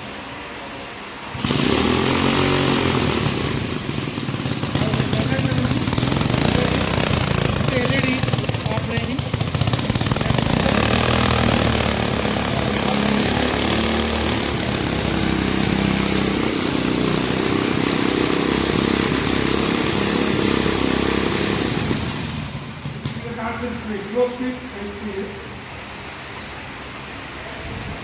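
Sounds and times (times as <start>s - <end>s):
motorcycle engine running steadily: 1.3s - 23.8s.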